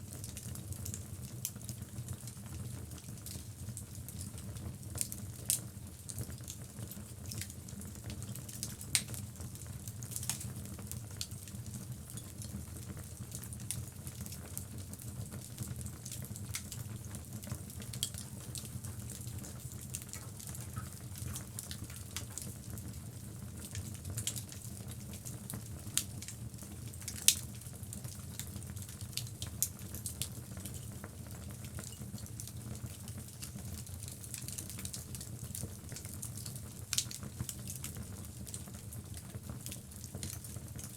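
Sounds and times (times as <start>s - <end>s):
wood crackling and popping: 0.2s - 4.4s, 5.0s - 40.9s.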